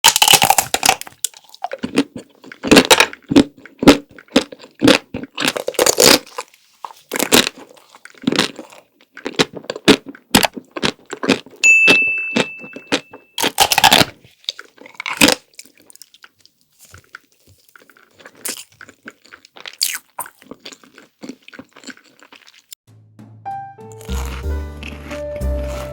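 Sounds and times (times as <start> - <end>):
crunching and chewing: 0.0 - 11.6, 12.4 - 22.8, 24.0 - 25.9.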